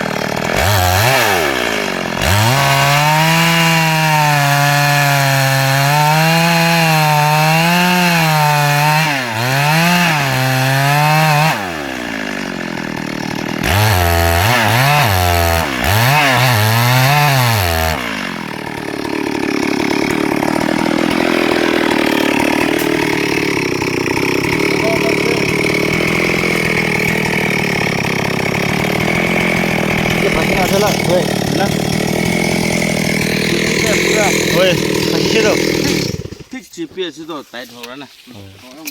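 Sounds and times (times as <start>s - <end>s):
chainsaw cutting wood: 0.0s - 36.6s
chainsaw revving: 0.0s - 36.6s.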